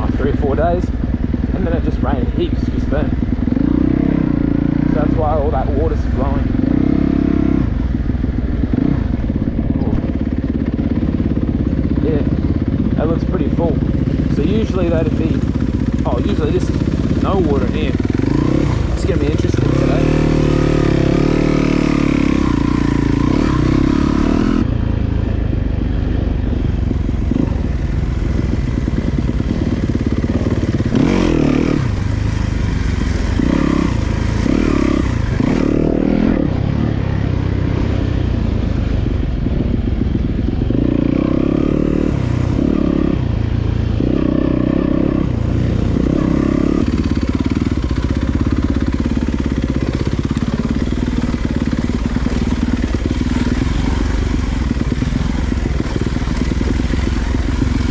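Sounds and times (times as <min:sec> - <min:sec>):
dirt bike engine revving: 0:00.0 - 0:25.2, 0:26.7 - 0:57.9.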